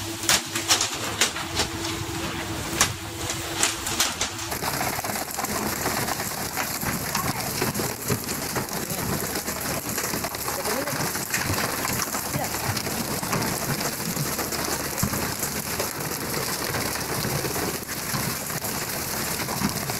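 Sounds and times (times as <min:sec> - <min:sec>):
steady hum: 0:00.0 - 0:19.9.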